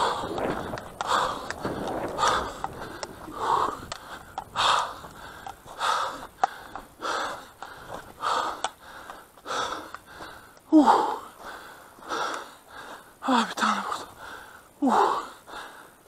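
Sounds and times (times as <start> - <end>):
man breathing hard: 0.0 - 16.0.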